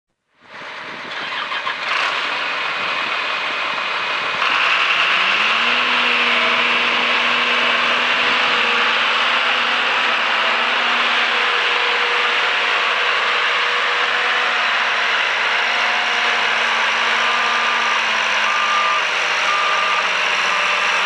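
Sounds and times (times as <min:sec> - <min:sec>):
diesel engine running: 0:00.4 - 0:21.0.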